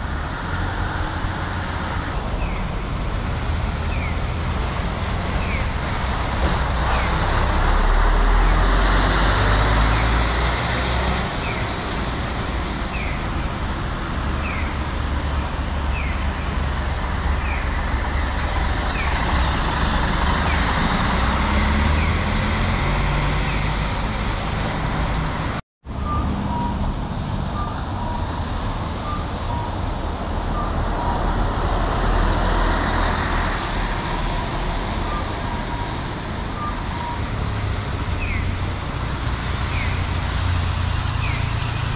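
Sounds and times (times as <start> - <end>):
buses driving past: 0.0 - 41.9.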